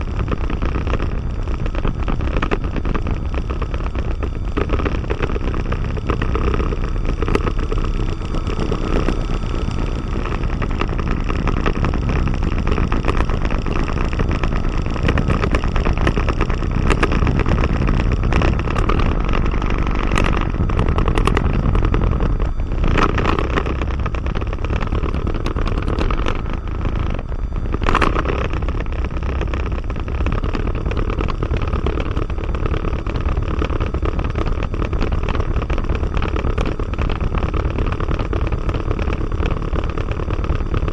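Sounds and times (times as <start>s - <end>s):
aircraft engine droning at idle: 0.0s - 40.9s.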